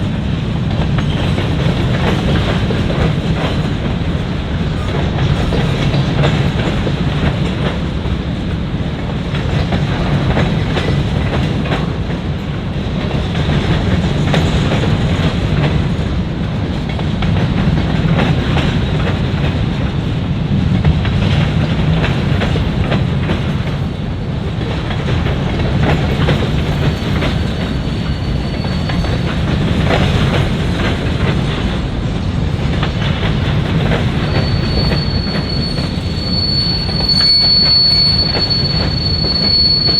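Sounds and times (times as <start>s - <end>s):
freight train wheels rumbling: 0.0s - 39.9s
wheels clacking over rail joints: 0.1s - 39.8s.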